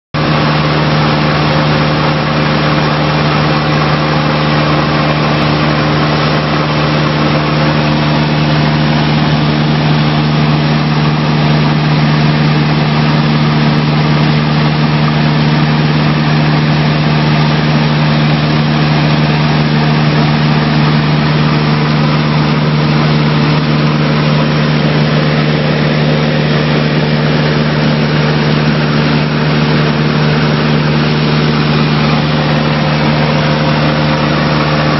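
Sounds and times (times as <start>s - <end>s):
light aircraft engine droning: 0.2s - 34.9s.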